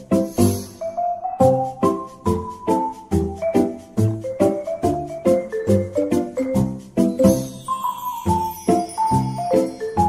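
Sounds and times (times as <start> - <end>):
light melody over a beat: 0.0 - 10.0.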